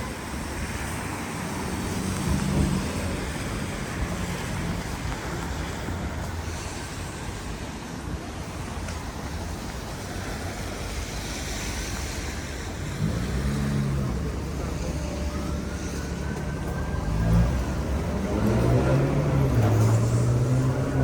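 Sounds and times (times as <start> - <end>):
city street traffic: 0.0 - 21.0
vehicle engine: 0.0 - 21.0.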